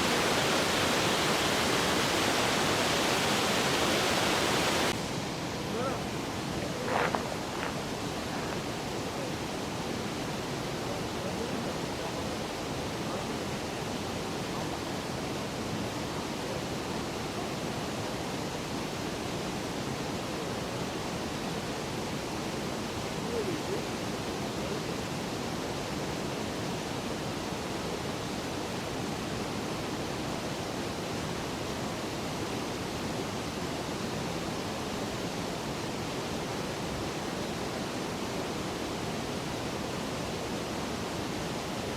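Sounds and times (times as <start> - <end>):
rushing water: 0.0 - 41.9.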